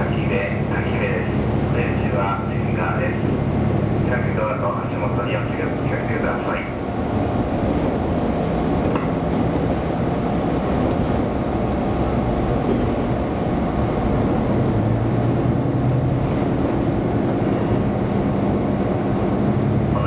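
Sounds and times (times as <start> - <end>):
diesel engine hum: 0.0 - 20.0
train rumbling in motion: 0.0 - 20.0.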